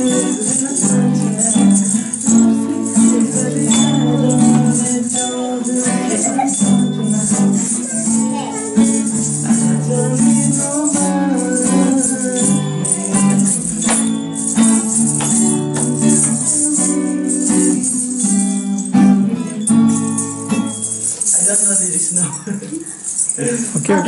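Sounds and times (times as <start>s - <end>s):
person singing: 0.0s - 20.9s
acoustic guitar strumming: 0.0s - 24.0s
rattling shaker: 0.0s - 24.0s.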